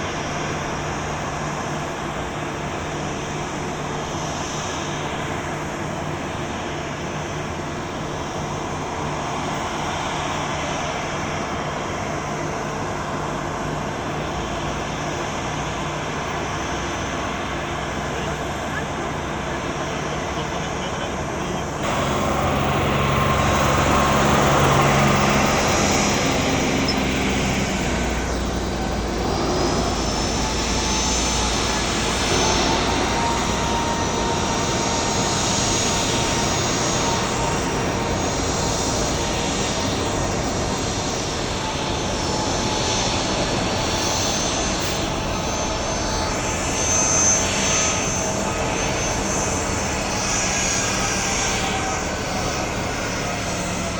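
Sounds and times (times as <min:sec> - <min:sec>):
jet engines running: 0:00.0 - 0:53.9
thin whine: 0:00.0 - 0:53.9.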